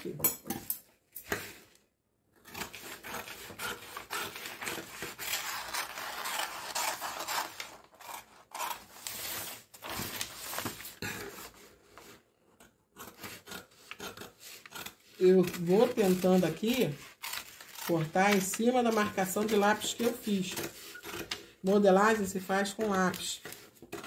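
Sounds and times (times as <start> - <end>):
scissors cutting stiff paper: 2.4 - 24.0.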